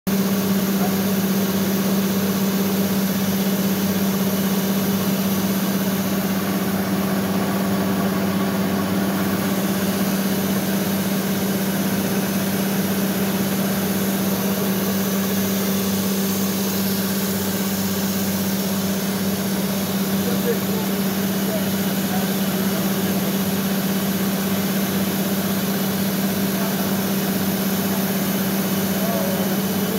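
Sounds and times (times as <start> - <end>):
coolant hiss: 0.1 - 29.9
machine tool low hum: 0.1 - 29.9.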